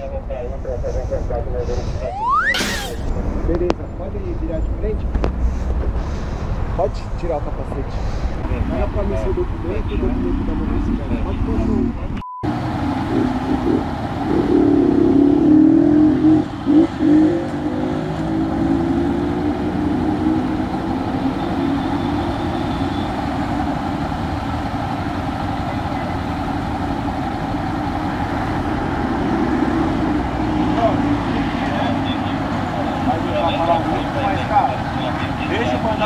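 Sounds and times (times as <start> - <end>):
vehicle engines passing: 0.0 - 36.0.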